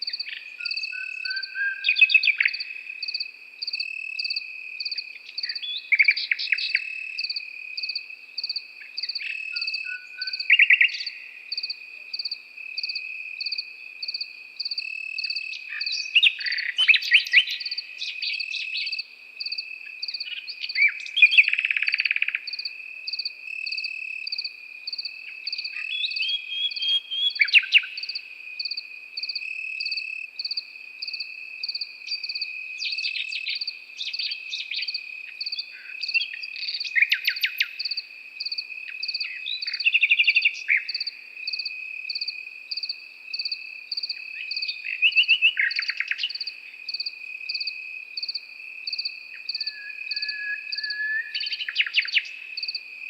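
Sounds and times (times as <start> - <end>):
cricket trilling: 0.0 - 53.0
high cricket chirping: 0.0 - 53.0
nightingale singing: 0.0 - 53.0.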